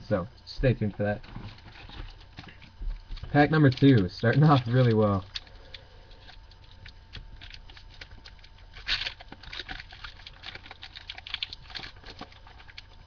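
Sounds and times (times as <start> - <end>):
foil wrapper tearing and crinkling: 1.0 - 13.0.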